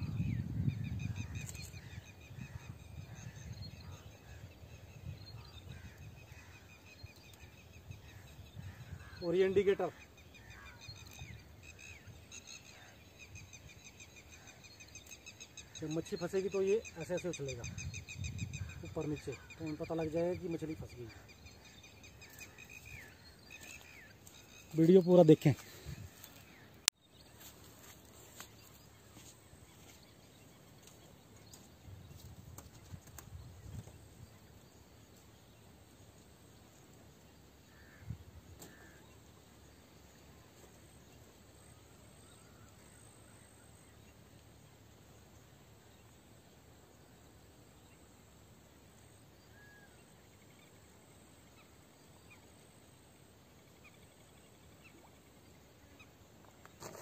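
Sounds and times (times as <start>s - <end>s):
faint open-air ambience: 0.0s - 57.0s
faint outdoor hiss: 0.0s - 57.0s.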